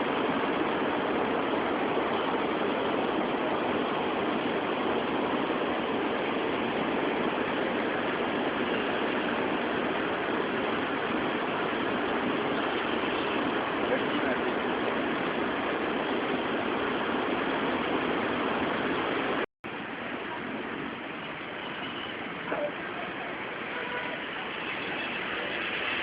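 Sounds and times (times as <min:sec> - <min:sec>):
street traffic hum: 0:00.0 - 0:26.0.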